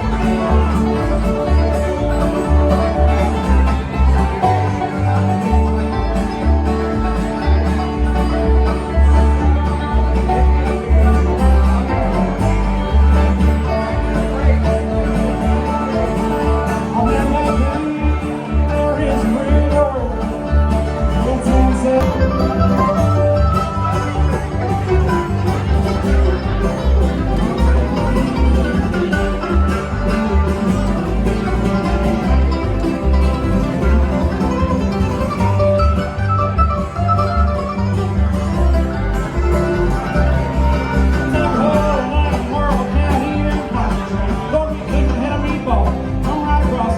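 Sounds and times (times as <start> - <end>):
banjo picking: 0.0 - 46.9
bass line: 0.0 - 46.9
guitar picking: 0.0 - 46.9.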